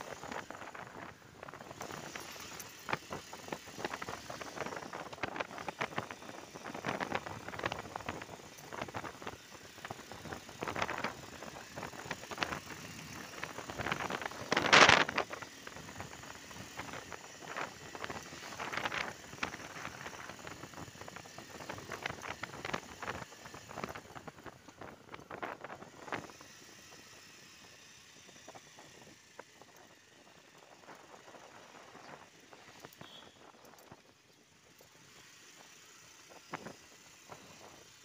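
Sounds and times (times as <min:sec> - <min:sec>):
motorcycle road and wind noise: 0:00.0 - 0:38.0.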